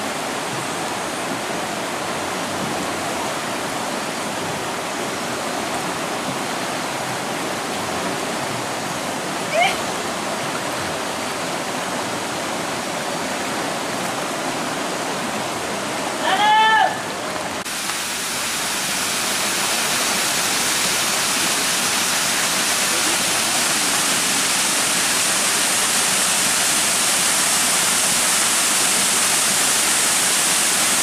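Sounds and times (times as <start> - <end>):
waterfall splashing on rocks: 0.0 - 31.0.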